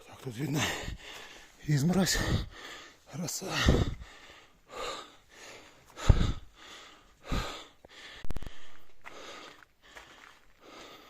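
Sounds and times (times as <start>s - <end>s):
person breathing hard: 0.6s - 11.0s.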